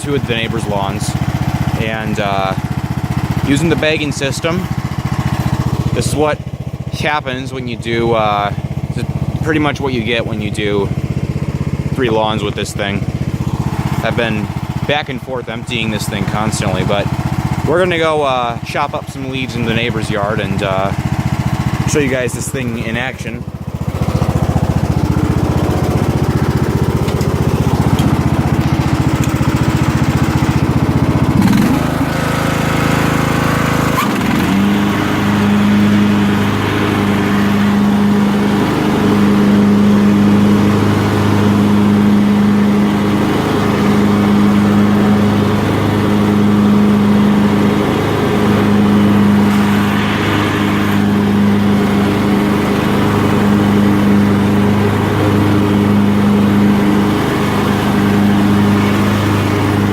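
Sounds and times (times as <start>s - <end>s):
lawn tractor engine running: 0.0s - 59.9s
mower chopping leaves: 0.0s - 59.9s.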